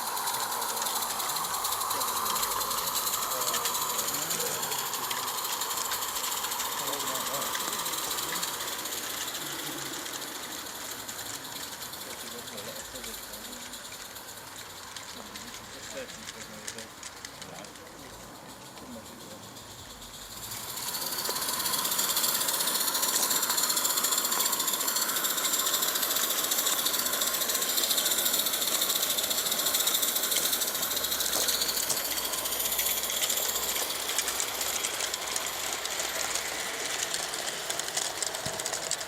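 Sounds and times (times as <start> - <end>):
hiss of steam: 0.0 - 39.0
steam locomotive exhaust beats: 0.0 - 39.0.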